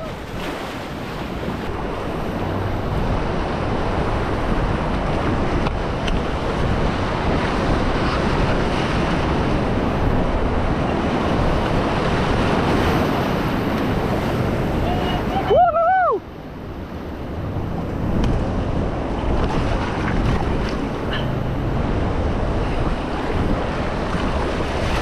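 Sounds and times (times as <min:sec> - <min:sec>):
whitewater rushing: 0:00.0 - 0:05.6, 0:06.2 - 0:25.0
wind noise on microphone: 0:00.0 - 0:25.0.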